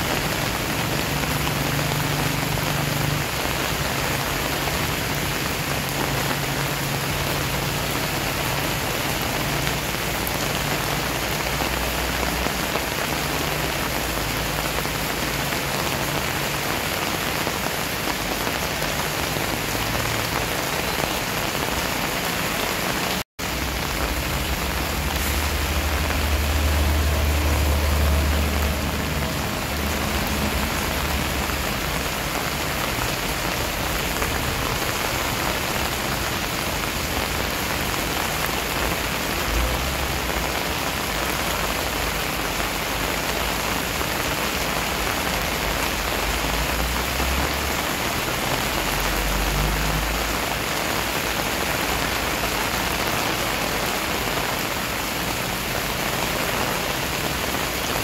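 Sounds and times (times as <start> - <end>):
rain pouring on paving and leaves: 0.0 - 58.0.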